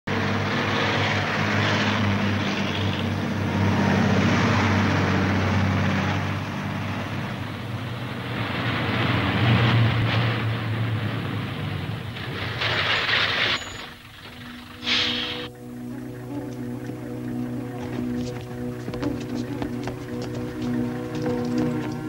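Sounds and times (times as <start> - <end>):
road noise hiss: 0.1 - 22.0
vehicle engines droning: 0.1 - 22.0.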